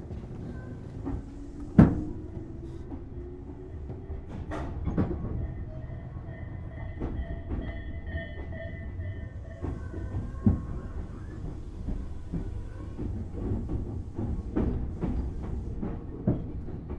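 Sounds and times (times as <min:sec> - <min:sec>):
train wheels rumbling: 0:00.0 - 0:16.9.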